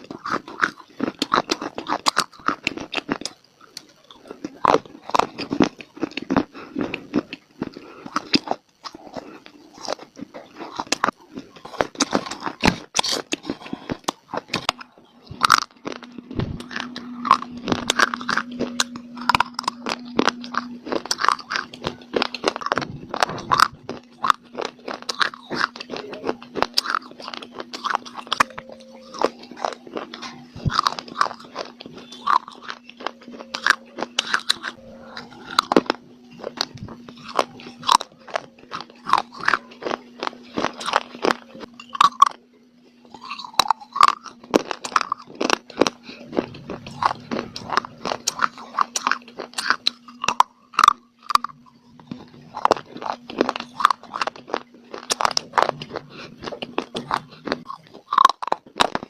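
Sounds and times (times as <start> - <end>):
crunching of dry clay: 0.0 - 42.4, 43.0 - 59.0
steady low hum: 0.0 - 59.0.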